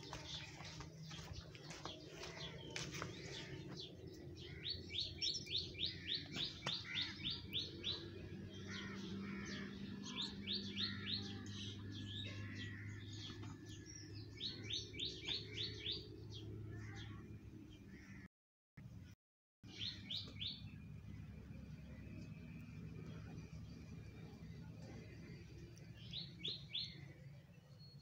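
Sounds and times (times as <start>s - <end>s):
bird chirping: 0.0s - 16.6s, 19.7s - 28.0s.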